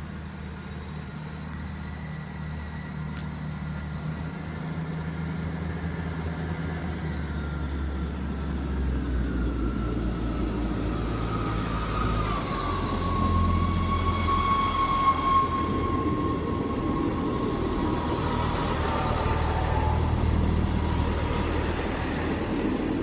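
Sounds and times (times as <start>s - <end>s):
diesel train engines droning: 0.0s - 23.0s
falling whine of passing train: 0.0s - 23.0s.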